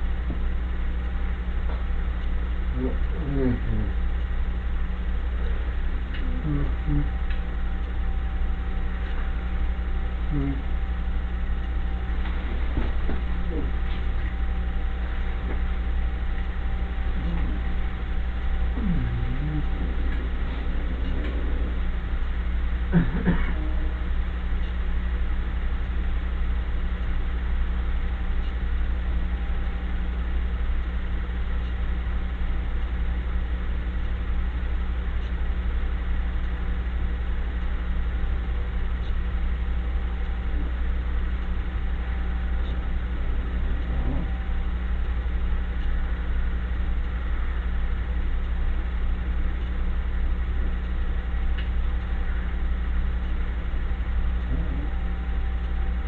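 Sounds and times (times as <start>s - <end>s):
low droning hum: 0.0s - 56.0s.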